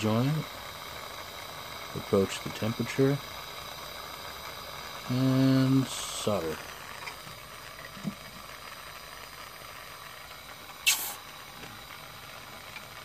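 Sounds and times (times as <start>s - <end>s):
sharp burst of noise: 0.0s - 12.4s
torch flame hissing: 0.0s - 13.0s.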